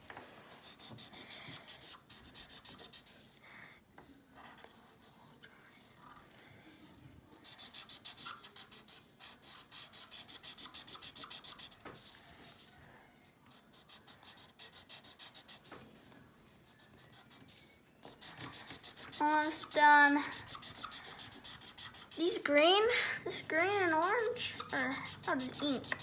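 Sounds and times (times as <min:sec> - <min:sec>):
marker scribbling on paper: 0:00.4 - 0:03.7, 0:05.9 - 0:12.8, 0:13.5 - 0:26.0.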